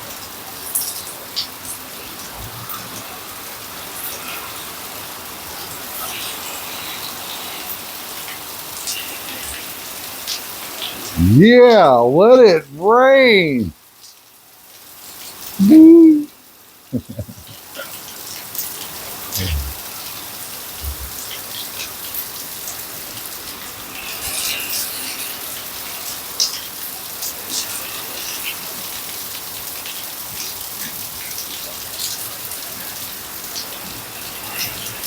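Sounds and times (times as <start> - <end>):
heavy rain on hard surface: 0.0 - 11.1, 13.2 - 15.6, 17.5 - 35.0.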